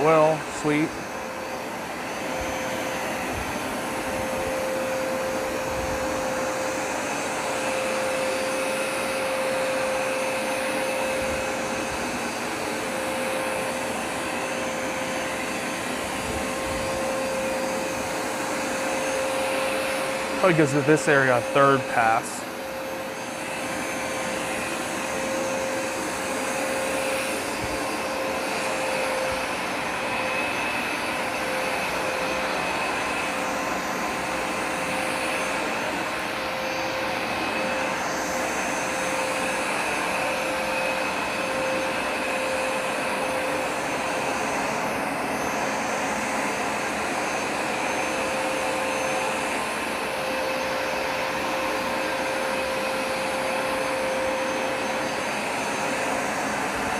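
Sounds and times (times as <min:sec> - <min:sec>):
carpet cleaner running: 0:00.0 - 0:56.9.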